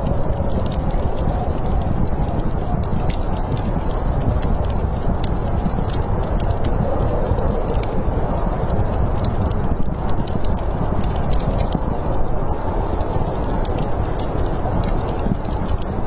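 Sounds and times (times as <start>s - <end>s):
snowstorm wind rumbling: 0.0s - 16.0s
wood fire crackling and popping: 0.0s - 16.0s.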